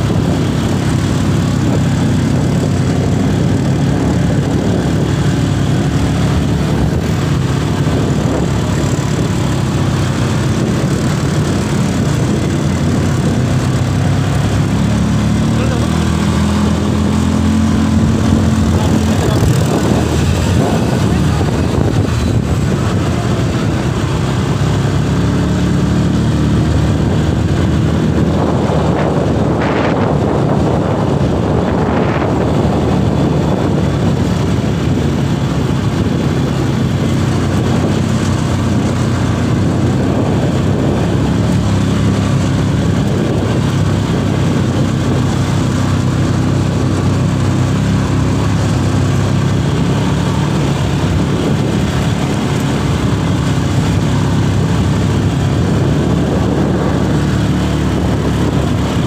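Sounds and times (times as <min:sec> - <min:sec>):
quad bike engine running: 0:00.0 - 0:59.0
wind noise: 0:00.0 - 0:59.0.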